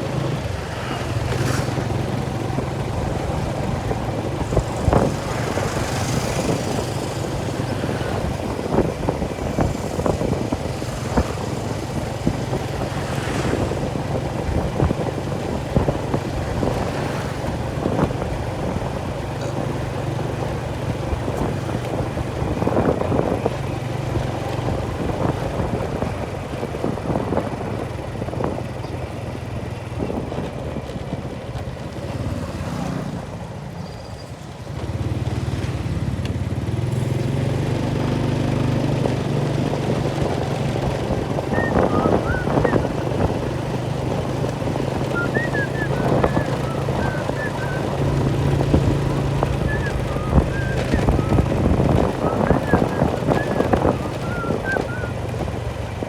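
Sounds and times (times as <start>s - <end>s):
small engine droning: 0.0s - 56.0s.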